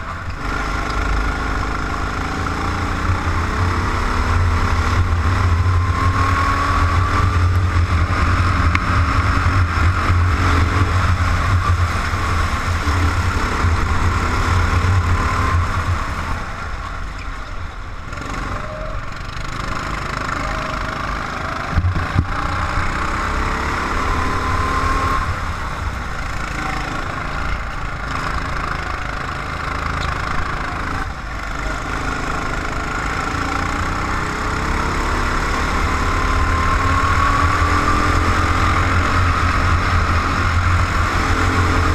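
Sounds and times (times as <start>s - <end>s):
racing car engine: 0.0s - 41.9s.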